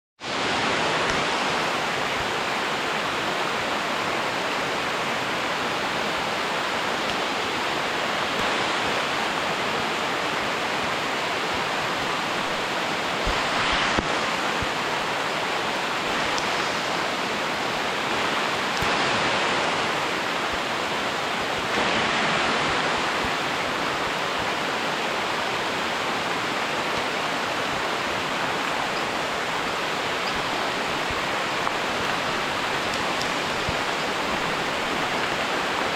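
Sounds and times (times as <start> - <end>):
water rushing: 0.2 - 35.9.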